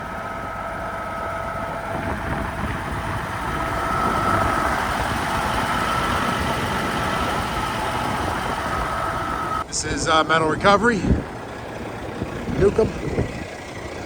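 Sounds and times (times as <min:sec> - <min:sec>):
thin steady whine: 0:00.0 - 0:14.0
truck engine idling: 0:00.0 - 0:14.0.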